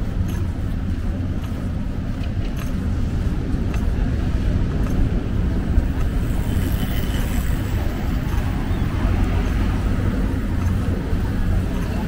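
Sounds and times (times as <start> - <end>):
street ambience rumble: 0.0 - 12.0.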